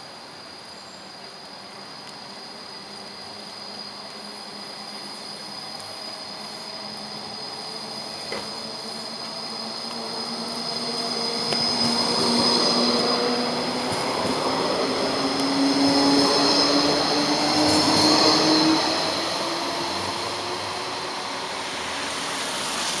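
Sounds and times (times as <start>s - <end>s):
tram rolling noise: 0.0s - 23.0s
high-pitched wheel squeal: 3.6s - 22.9s.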